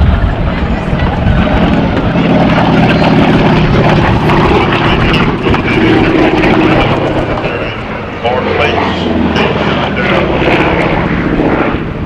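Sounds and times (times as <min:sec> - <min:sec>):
radial aircraft engine droning: 0:00.0 - 0:12.0.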